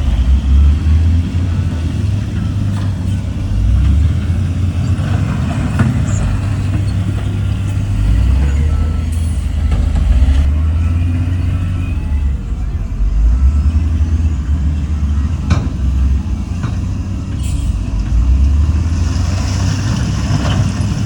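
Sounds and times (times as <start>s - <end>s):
heavy diesel engine rumble: 0.0s - 21.0s.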